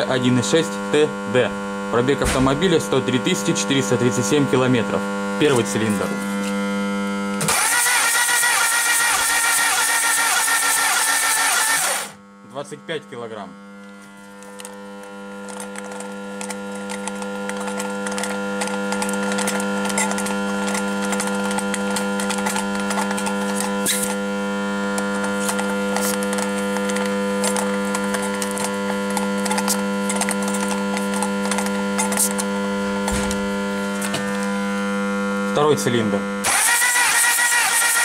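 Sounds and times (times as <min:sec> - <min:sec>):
steady electric hum: 0:00.0 - 0:07.5, 0:11.9 - 0:36.5.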